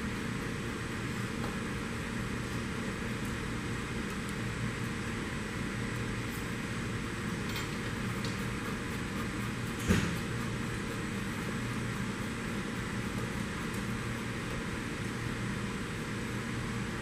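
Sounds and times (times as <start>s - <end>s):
workshop hum and hiss: 0.0s - 17.0s.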